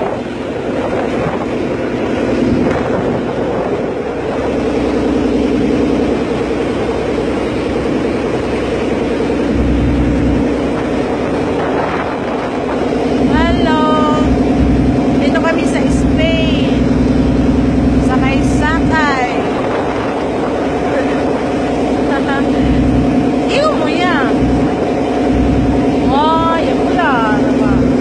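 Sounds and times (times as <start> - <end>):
ferry engine droning: 0.0 - 28.0
wind buffeting microphone: 0.0 - 28.0.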